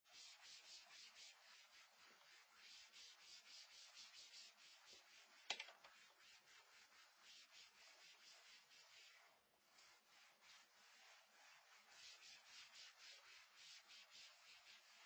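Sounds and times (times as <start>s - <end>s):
eraser rubbing whiteboard: 0.1s - 15.0s.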